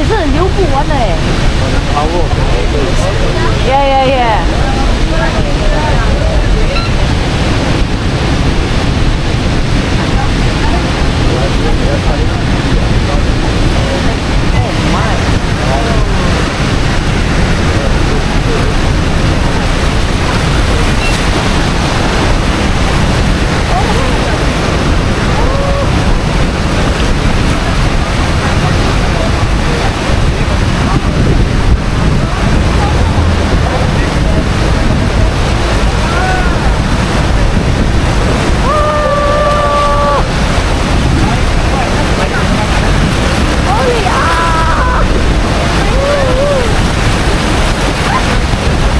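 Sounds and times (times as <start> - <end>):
waterfall rushing: 0.0 - 48.9
wind buffeting microphone: 0.0 - 48.9.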